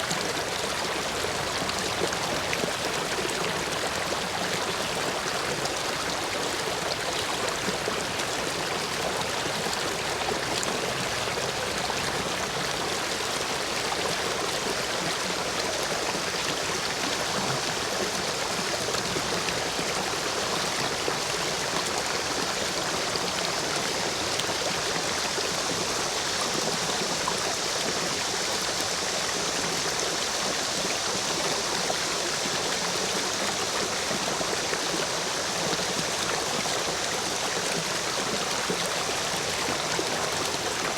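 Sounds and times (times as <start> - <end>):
stream water rushing over stones: 0.0 - 40.9.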